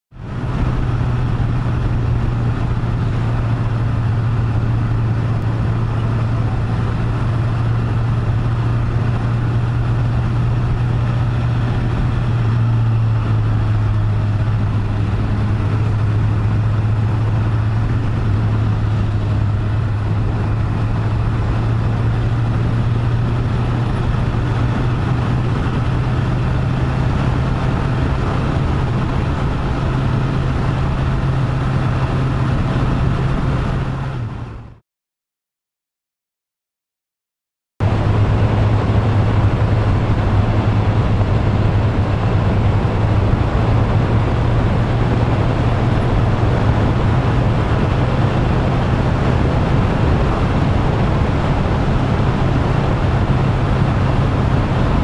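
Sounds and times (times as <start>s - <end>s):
motorcycle engine cruising: 0.1s - 34.8s, 37.8s - 55.0s
wind and road noise: 0.1s - 34.8s, 37.8s - 55.0s.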